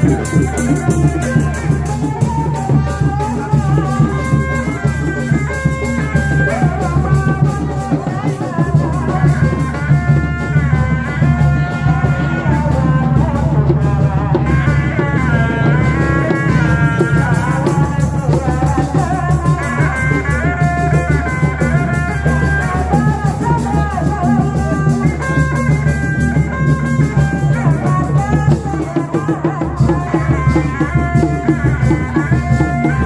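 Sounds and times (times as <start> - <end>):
drums beating steady rhythm: 0.0 - 33.0.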